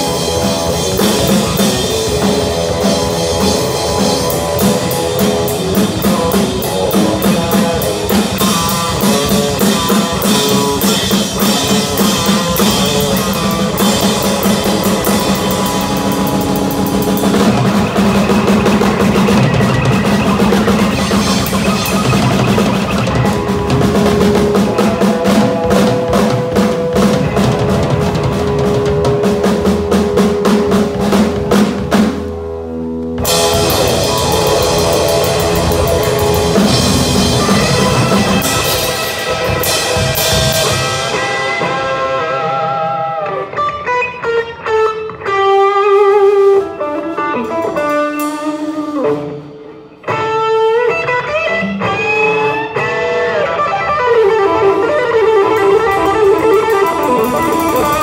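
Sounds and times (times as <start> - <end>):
drum kit playing: 0.0 - 58.0
electric guitar: 0.0 - 58.0.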